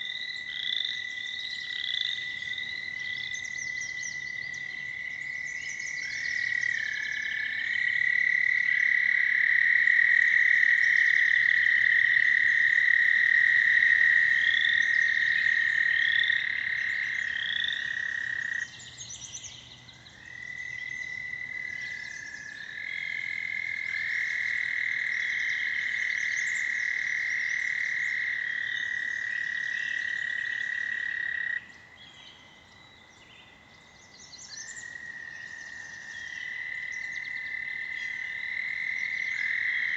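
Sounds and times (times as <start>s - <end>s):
toads trilling: 0.0s - 33.1s, 34.3s - 39.9s.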